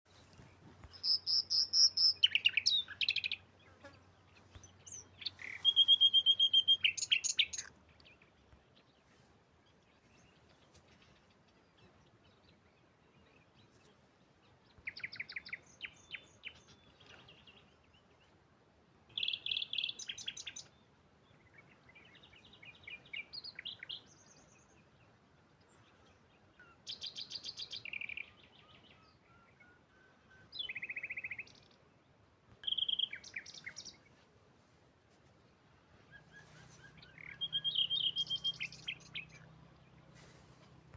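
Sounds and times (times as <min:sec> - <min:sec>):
songbird chirping and trilling: 0:00.1 - 0:18.3, 0:19.1 - 0:34.2, 0:35.6 - 0:40.8.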